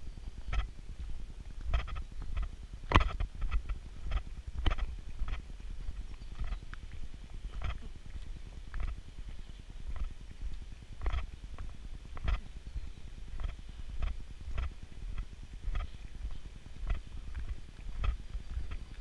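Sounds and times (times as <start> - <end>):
footsteps on road: 0.0 - 19.0
wind on microphone: 0.0 - 19.0.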